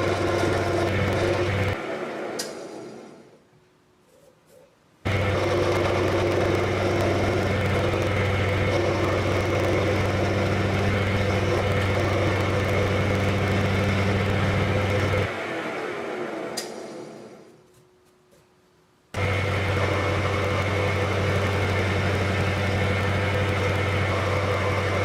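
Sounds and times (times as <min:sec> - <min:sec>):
electric machine humming: 0:00.0 - 0:03.4, 0:05.0 - 0:17.5, 0:19.1 - 0:25.0.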